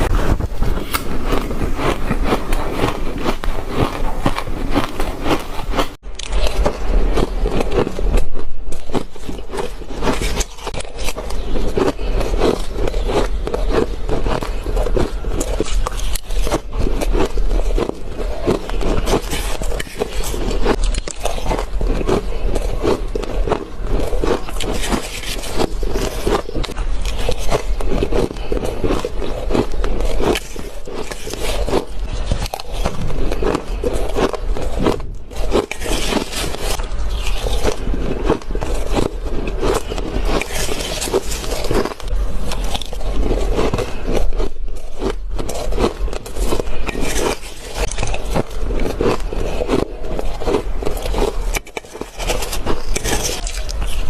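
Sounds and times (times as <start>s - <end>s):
chewing shaved ice: 0.0s - 54.0s.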